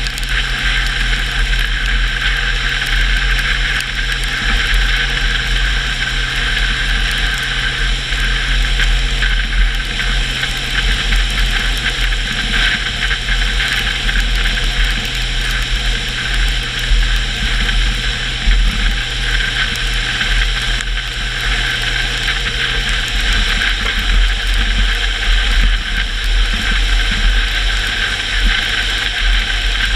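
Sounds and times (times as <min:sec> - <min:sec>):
car engine running: 0:00.0 - 0:29.9
low road rumble: 0:00.0 - 0:29.9
tyres hissing on wet road: 0:00.0 - 0:29.9.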